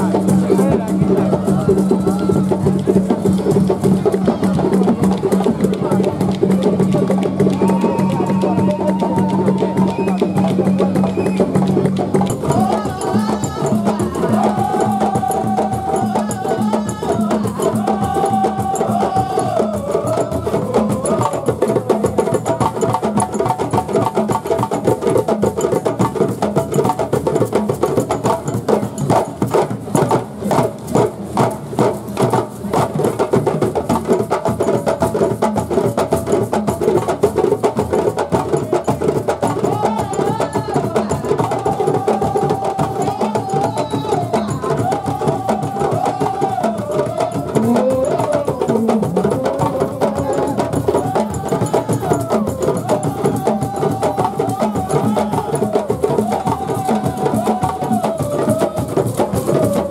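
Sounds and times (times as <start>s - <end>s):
fast percussion beat: 0.0s - 59.9s.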